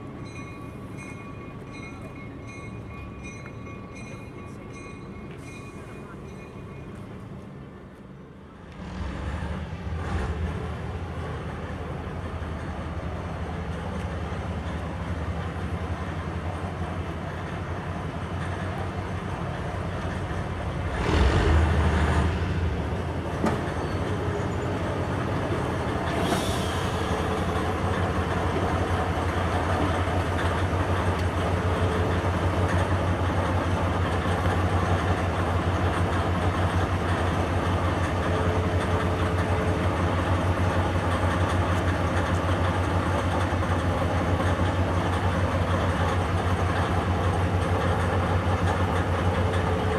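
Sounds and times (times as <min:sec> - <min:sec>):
locomotive engine humming: 0:00.0 - 0:49.9.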